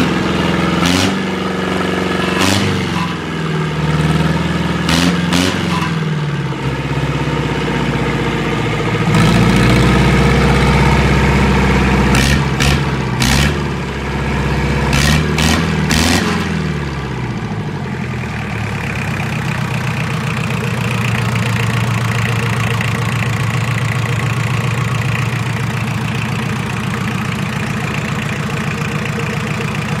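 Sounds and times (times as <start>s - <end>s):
marine diesel engine revving: 0.0s - 30.0s.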